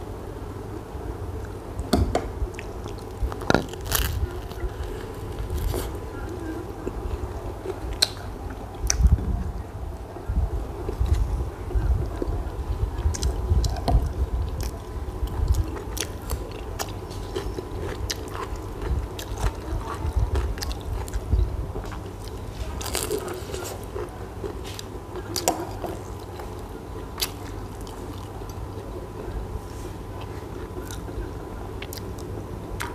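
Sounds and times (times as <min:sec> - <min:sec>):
person chewing bread: 0:02.5 - 0:09.2, 0:12.0 - 0:32.9.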